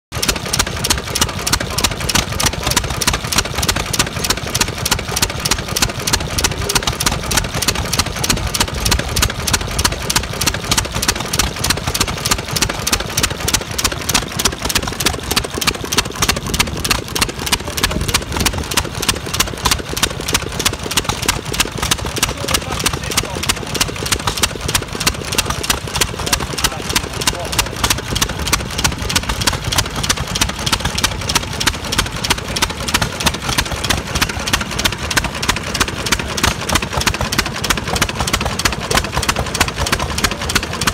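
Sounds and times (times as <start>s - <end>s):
stationary gas engine running: 0.1s - 40.9s.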